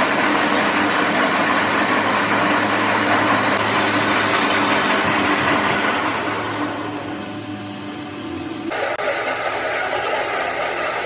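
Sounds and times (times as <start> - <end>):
heavy engine droning: 0.0 - 11.0.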